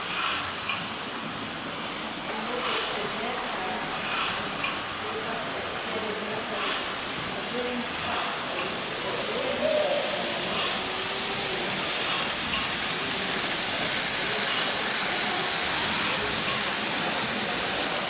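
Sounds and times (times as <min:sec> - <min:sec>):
model trains rolling on track: 0:00.0 - 0:18.0.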